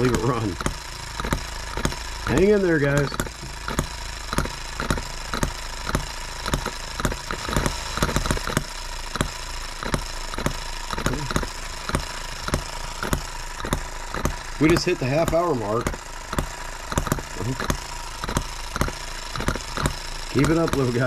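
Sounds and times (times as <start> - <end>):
engine hum: 0.0 - 21.0
model gas engine popping: 0.0 - 21.0.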